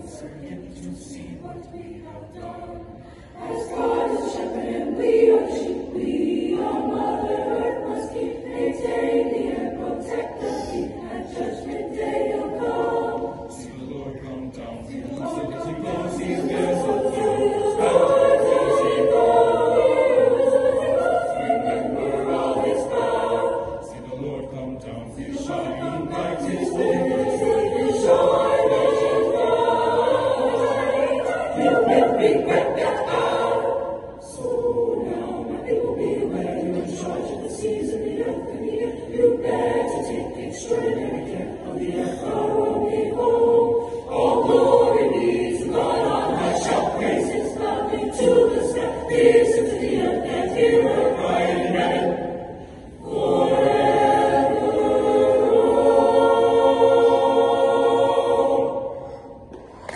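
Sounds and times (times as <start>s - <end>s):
large mixed choir singing: 0.0s - 59.9s.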